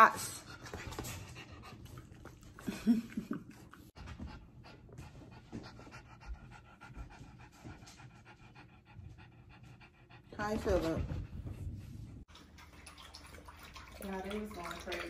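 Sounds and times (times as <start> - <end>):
dog panting: 0.0 - 12.3.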